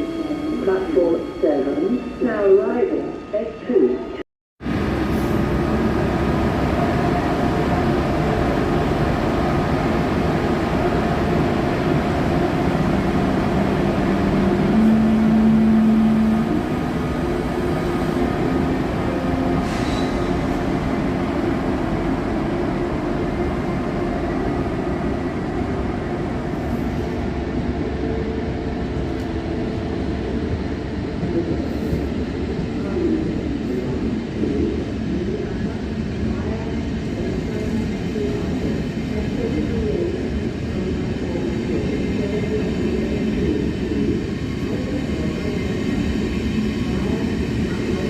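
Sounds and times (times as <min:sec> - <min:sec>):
train rolling rumble: 0:04.6 - 0:48.0.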